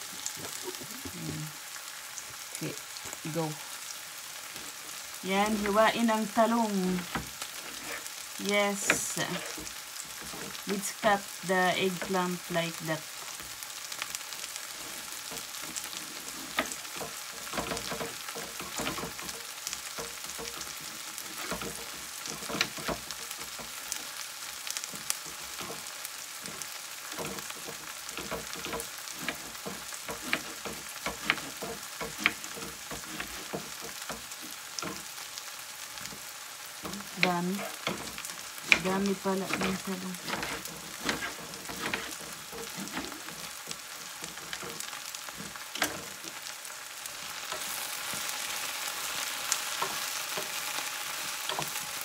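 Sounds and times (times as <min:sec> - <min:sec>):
onions sizzling in a frying pan: 0:00.0 - 0:52.0.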